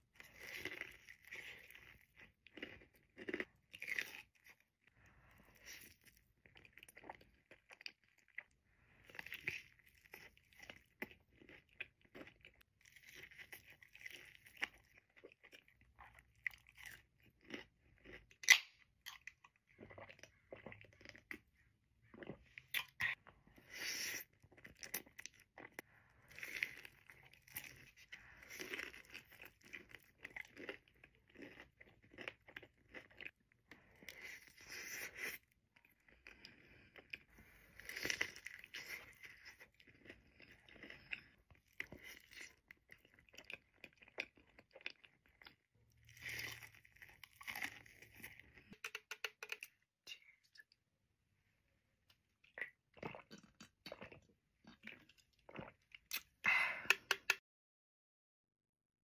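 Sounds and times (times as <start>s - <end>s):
chewing and crunching food: 0.0s - 57.4s.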